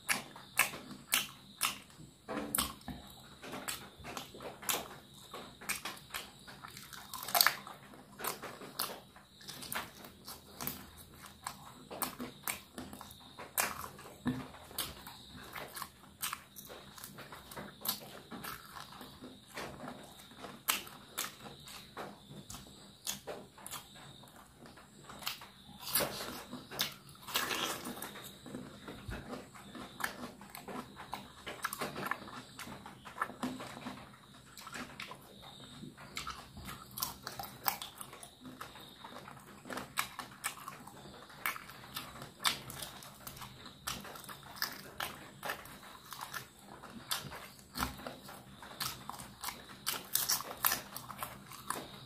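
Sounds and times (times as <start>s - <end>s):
person chewing with wet smacks: 0.0s - 52.0s.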